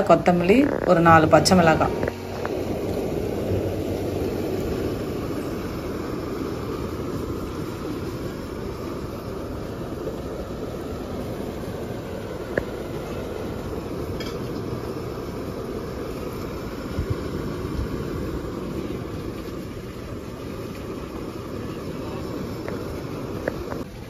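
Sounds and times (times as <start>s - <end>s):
gas stove burner rushing: 0.0s - 24.0s.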